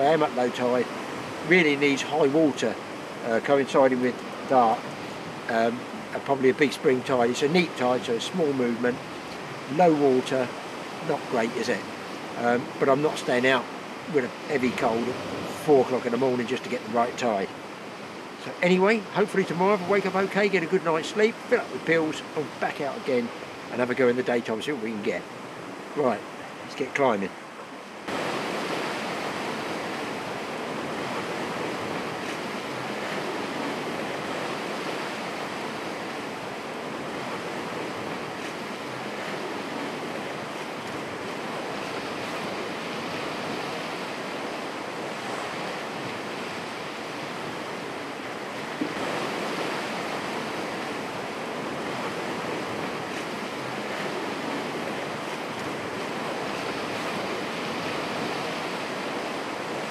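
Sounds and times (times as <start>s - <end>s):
surf washing on rocky shore: 0.0s - 59.9s.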